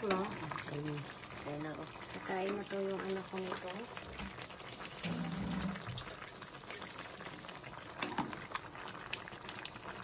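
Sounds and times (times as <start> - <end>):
soup bubbling in a pan: 0.0 - 10.0.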